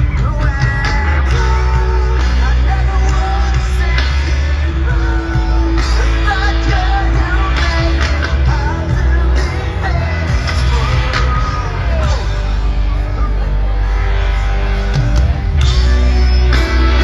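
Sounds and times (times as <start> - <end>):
rock music with sung vocal: 0.0 - 17.0.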